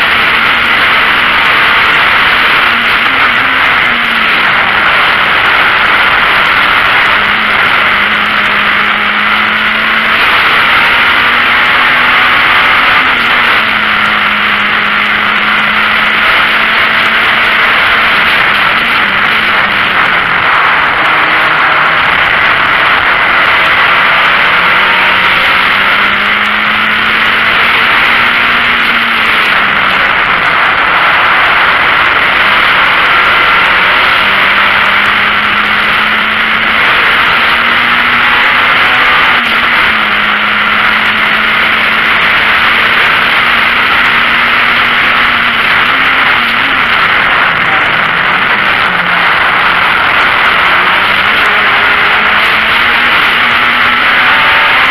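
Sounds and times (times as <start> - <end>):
race car engine revving: 0.0 - 54.9
wind and road noise: 0.0 - 54.9.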